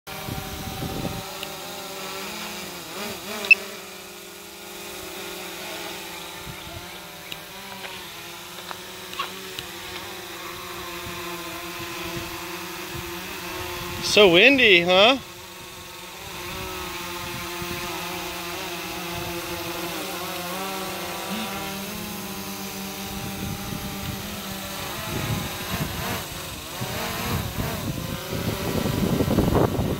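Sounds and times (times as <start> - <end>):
drone propellers whining: 0.1 - 29.9.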